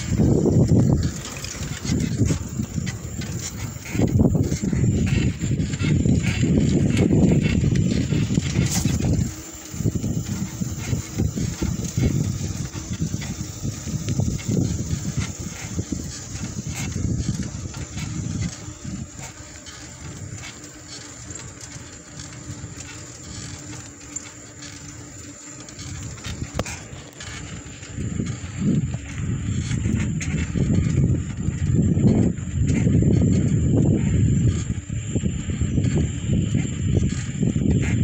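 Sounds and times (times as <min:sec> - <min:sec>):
wind rushing over microphone: 0:00.0 - 0:24.0, 0:24.7 - 0:38.0
bicycle tyre noise: 0:00.0 - 0:38.0
small clicks and rattles: 0:00.0 - 0:38.0.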